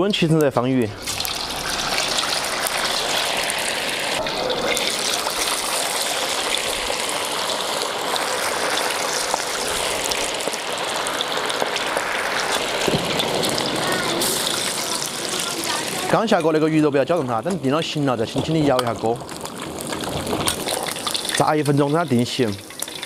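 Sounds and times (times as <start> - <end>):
fish deep-frying in hot oil: 0.9 - 23.0.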